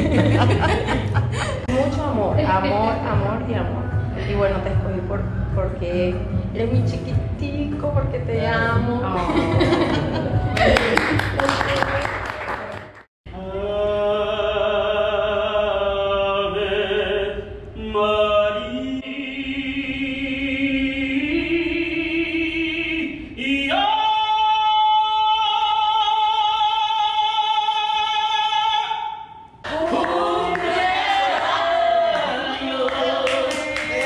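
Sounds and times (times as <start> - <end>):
music with singing voices: 0.0 - 12.6, 13.3 - 34.0.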